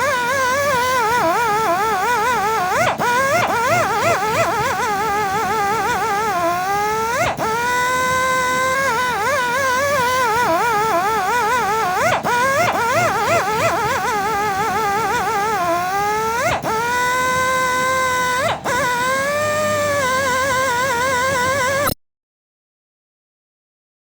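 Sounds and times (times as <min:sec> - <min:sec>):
polisher motor whining: 0:00.0 - 0:22.0.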